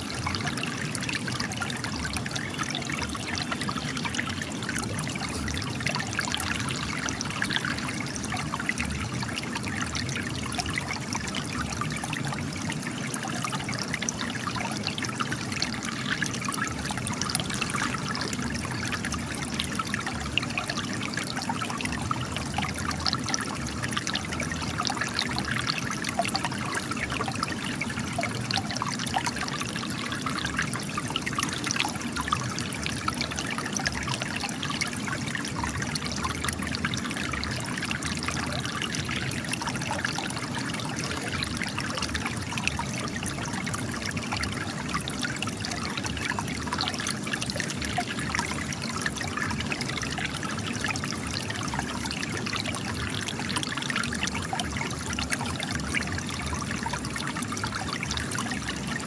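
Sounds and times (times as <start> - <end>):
spring water trickling and splashing: 0.0 - 59.0.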